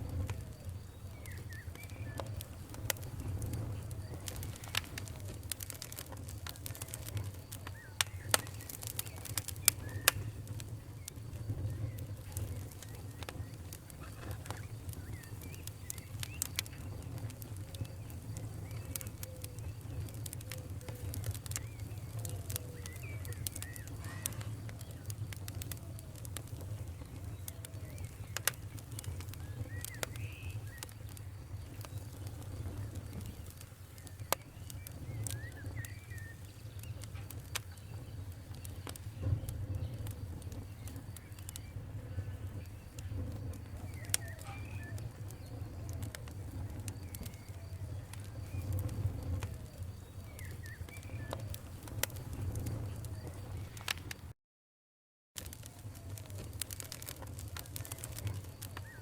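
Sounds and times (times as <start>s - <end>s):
low rumble of flames: 0.0s - 54.4s, 55.4s - 59.0s
wood fire crackling and popping: 0.0s - 54.4s, 55.4s - 59.0s.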